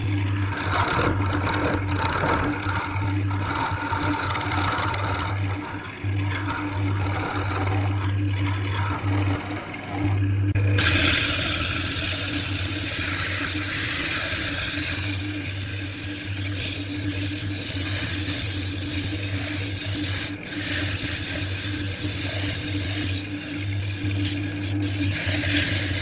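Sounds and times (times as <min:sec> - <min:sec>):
tool hissing on spinning wood: 0:00.0 - 0:10.2, 0:10.8 - 0:26.0
lathe motor humming: 0:00.0 - 0:26.0.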